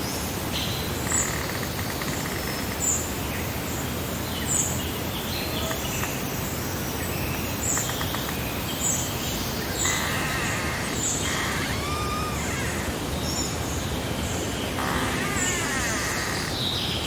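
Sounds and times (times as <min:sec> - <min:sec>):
songbirds singing and chirping: 0:00.0 - 0:17.0.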